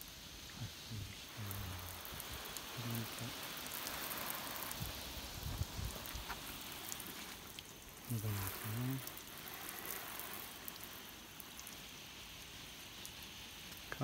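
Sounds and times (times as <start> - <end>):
rain on car and pavement: 0.0 - 14.0.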